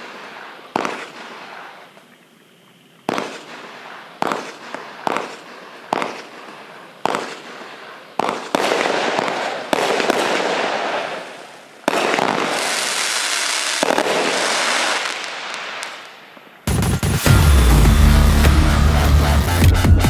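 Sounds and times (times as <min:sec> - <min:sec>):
firework bursting crackle: 0:00.0 - 0:20.0.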